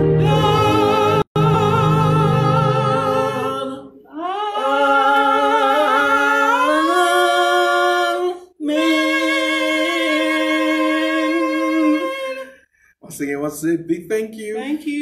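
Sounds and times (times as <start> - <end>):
voices singing a hymn unaccompanied: 0.0 - 12.6.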